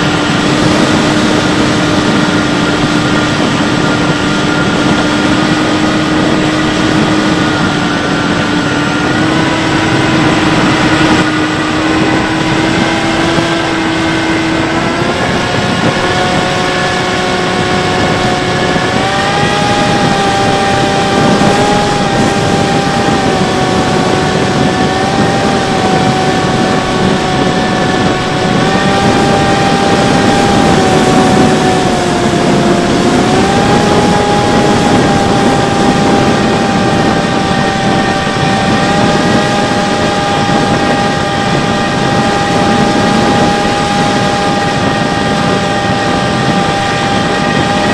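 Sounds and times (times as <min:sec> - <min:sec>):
electric motor whine: 0:00.0 - 0:47.9
rushing air noise: 0:00.0 - 0:47.9.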